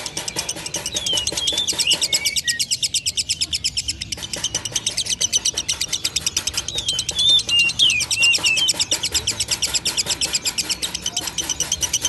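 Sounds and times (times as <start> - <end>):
lovebird chattering trill: 0.0 - 12.0
sliding whistled bird notes: 0.0 - 12.0.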